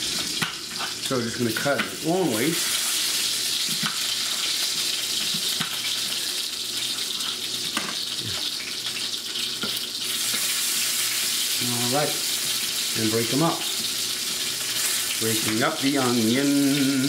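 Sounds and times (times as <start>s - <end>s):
sausage sizzling in a frying pan: 0.0s - 17.0s.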